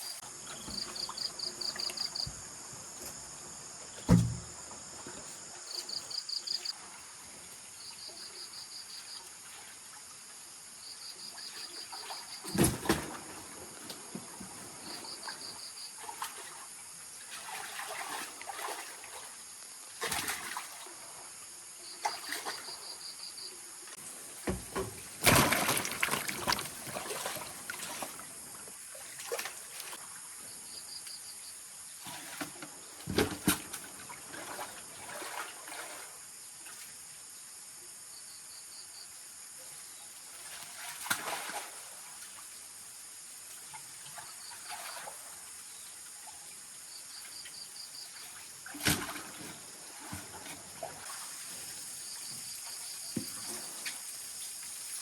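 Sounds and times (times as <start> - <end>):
water splashing and trickling: 0.0 - 30.6, 31.9 - 37.2, 39.6 - 55.0
insect chirps: 0.0 - 55.0.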